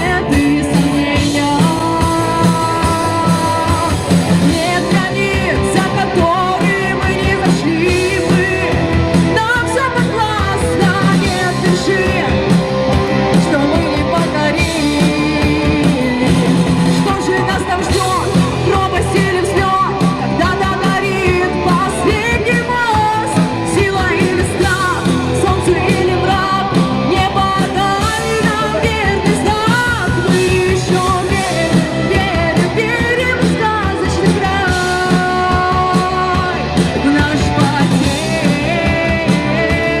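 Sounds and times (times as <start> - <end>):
lead vocal singing: 0.0 - 40.0
rock band playing: 0.0 - 40.0.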